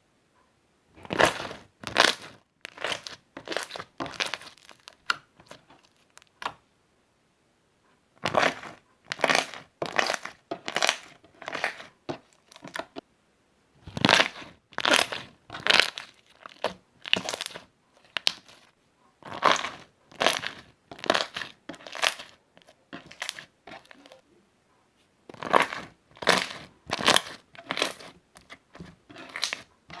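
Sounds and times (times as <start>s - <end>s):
slime squishing by hand: 1.0s - 6.6s, 8.2s - 13.0s, 13.8s - 24.2s, 25.2s - 30.0s.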